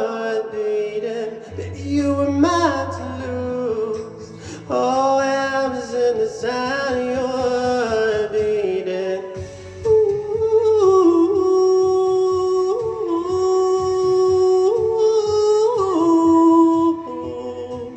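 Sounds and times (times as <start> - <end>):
pop backing track with beat: 0.0 - 17.9.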